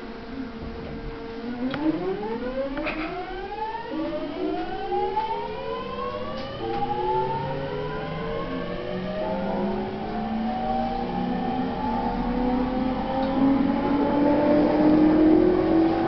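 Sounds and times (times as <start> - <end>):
train inverter whining: 0.0 - 16.0.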